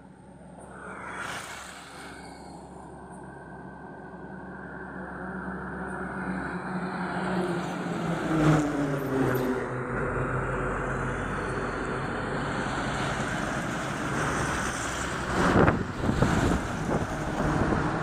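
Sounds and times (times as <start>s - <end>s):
heavy trucks passing: 1.3s - 18.0s.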